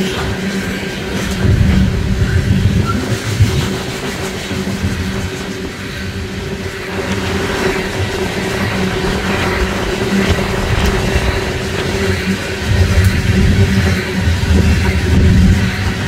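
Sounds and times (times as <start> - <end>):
train cars rumbling on rails: 0.0 - 16.0.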